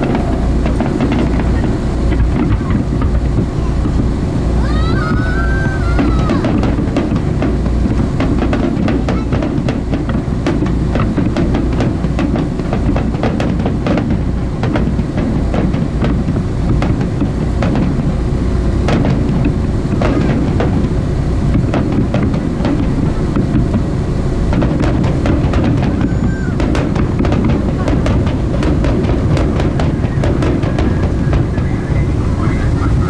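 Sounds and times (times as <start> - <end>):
boat motor: 0.0 - 33.0
fireworks bangs and crackles: 0.0 - 33.0
wind rumble: 0.0 - 33.0.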